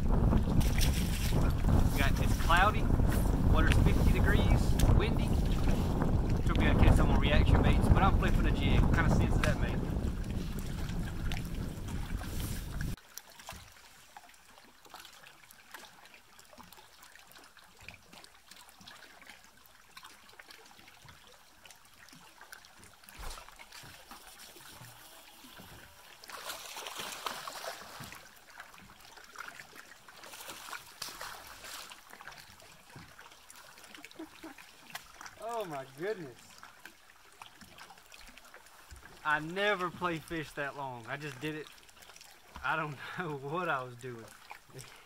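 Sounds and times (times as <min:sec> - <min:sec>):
waves lapping against boat hull: 0:00.0 - 0:45.0.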